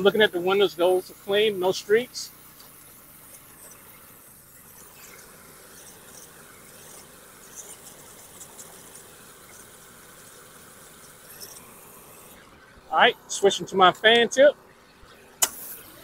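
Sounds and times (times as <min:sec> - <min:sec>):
pressure washer engine droning: 0:00.0 - 0:16.0
water jet spraying: 0:00.0 - 0:16.0.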